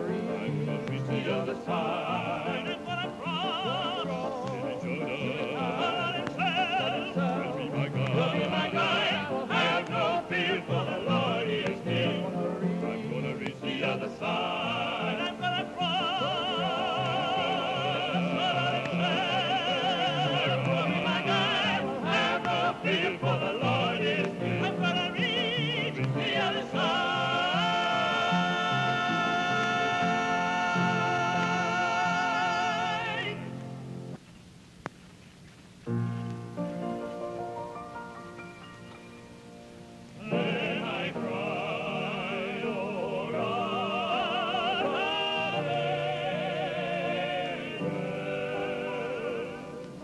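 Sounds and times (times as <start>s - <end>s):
operatic gospel singing: 0.0s - 33.9s, 40.1s - 50.0s
accompanying music: 0.0s - 34.2s, 35.4s - 50.0s.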